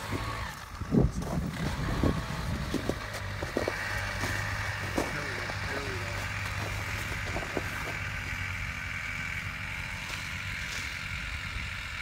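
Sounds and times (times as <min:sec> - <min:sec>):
low rumble and hum: 0:00.0 - 0:12.0.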